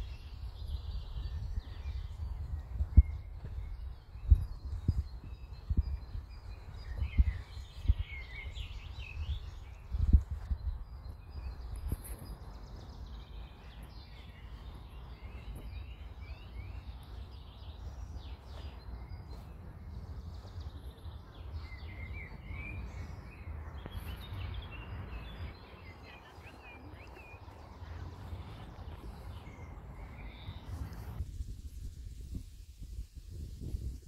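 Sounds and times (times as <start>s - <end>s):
small birds chirping and singing: 0.0s - 31.3s.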